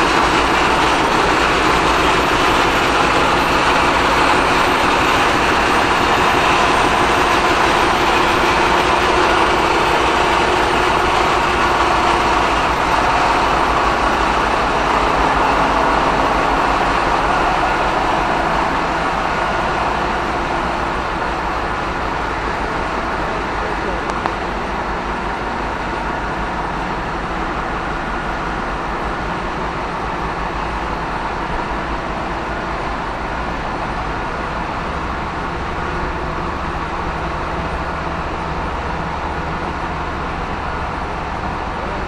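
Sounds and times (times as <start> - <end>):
engine room machinery din: 0.0 - 42.0.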